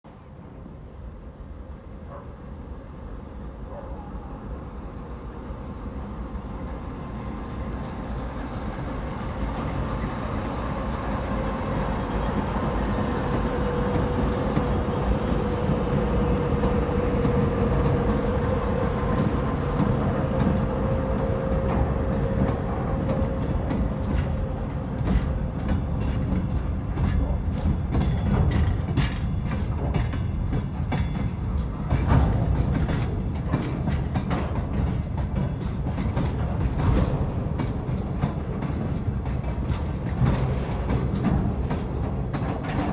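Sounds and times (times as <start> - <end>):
diesel locomotive engine drone: 0.1 - 42.9
train wheels clicking over rail joints: 8.1 - 42.9.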